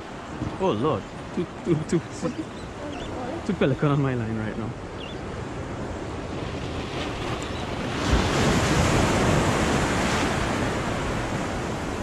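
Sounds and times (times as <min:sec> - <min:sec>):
wave washing over rocks: 0:00.0 - 0:12.0.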